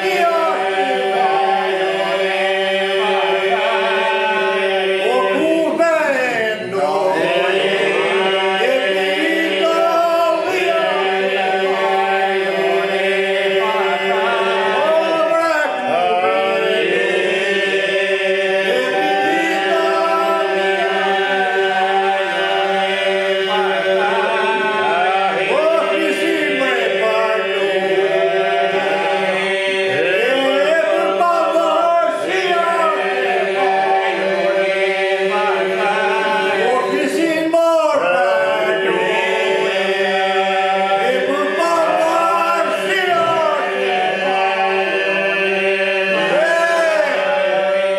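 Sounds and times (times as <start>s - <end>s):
lead voices ornamented melody: 0.0s - 47.9s
men singing a cappella folk song: 0.0s - 47.9s
steady vocal drone: 0.0s - 47.9s.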